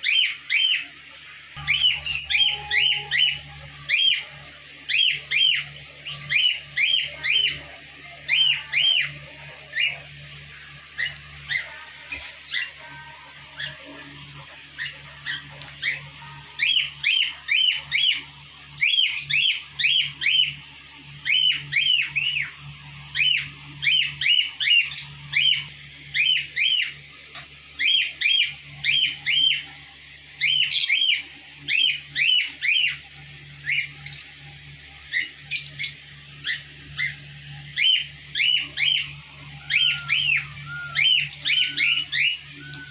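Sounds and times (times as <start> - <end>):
low steady hum: 0.0 - 42.9
parrots chirping: 0.0 - 42.9.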